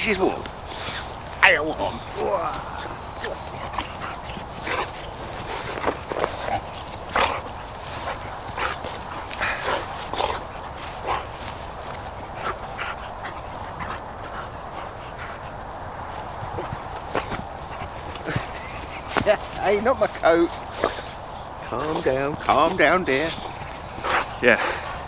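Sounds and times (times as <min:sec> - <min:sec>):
crackles and rustles: 0:00.0 - 0:25.0
dog moving about: 0:00.2 - 0:25.0.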